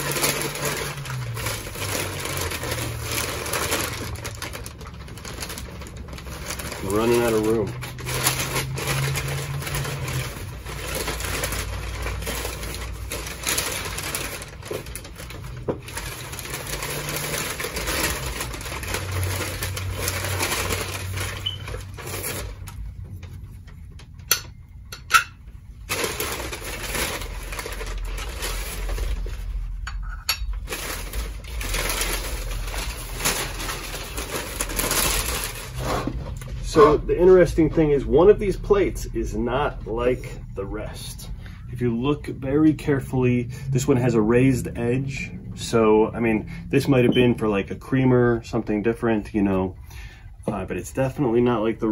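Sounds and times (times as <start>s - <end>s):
packing paper rustling: 0.0s - 24.3s, 25.6s - 45.0s.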